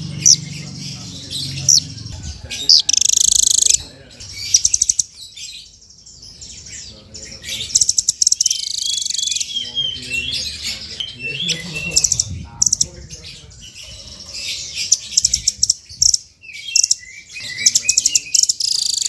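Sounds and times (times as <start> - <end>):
songbird trilling and whistling: 0.0 - 19.0.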